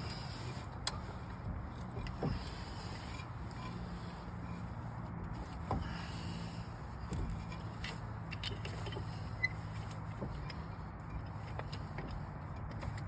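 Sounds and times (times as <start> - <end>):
steady low hum: 0.0 - 13.0
light clicks and knocks: 0.8 - 13.0.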